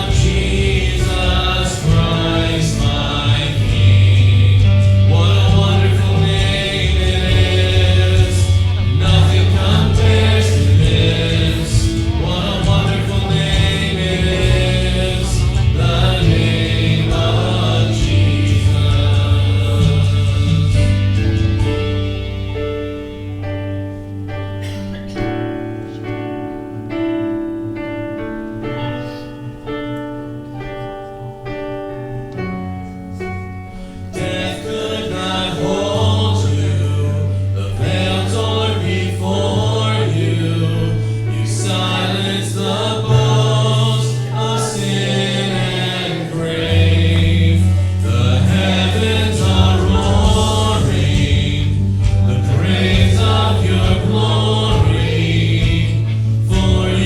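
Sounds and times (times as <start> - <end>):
group singing: 0.0 - 22.8, 33.7 - 57.0
band with bass: 0.0 - 26.8, 32.3 - 57.0
sustained keyboard notes: 0.0 - 57.0.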